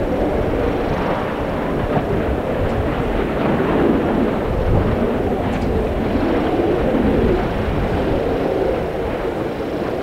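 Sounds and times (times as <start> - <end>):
volcanic vent roaring: 0.0 - 10.0.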